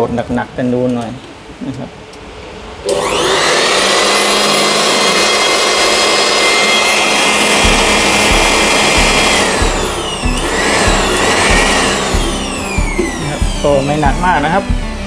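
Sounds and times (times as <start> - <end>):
electric blower motor whine: 2.8 - 15.0.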